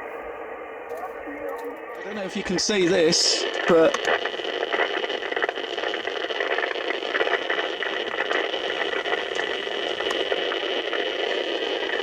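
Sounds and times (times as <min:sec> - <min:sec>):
radio static hiss with crackling: 0:00.0 - 0:12.0.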